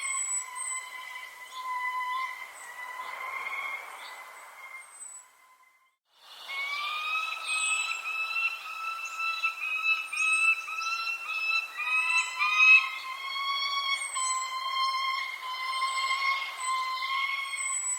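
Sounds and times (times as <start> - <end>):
high falling bird chirps: 0.0 - 5.6, 6.3 - 17.9
birds whistling song: 0.0 - 17.9.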